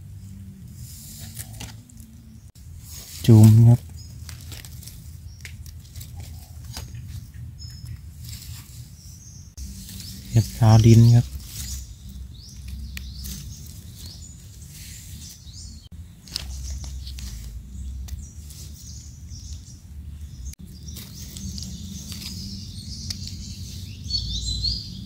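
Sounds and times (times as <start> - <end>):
birds chirping: 0.0 - 25.0
dry leaves crackling and rustling: 0.0 - 25.0
low steady rumble: 0.0 - 25.0.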